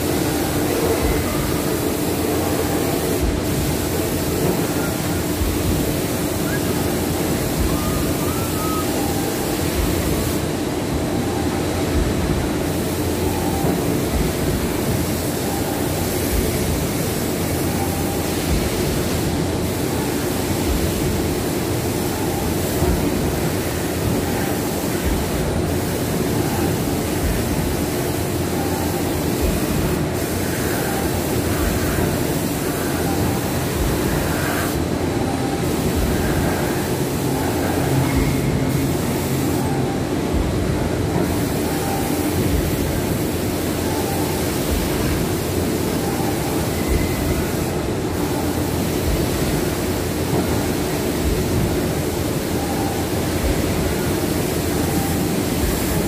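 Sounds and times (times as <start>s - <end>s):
machine rumble with hiss: 0.0s - 56.0s.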